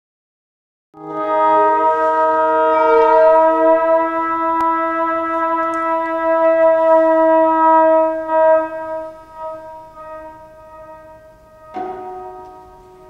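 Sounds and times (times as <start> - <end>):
brass-like sustained chords: 1.0 - 13.0.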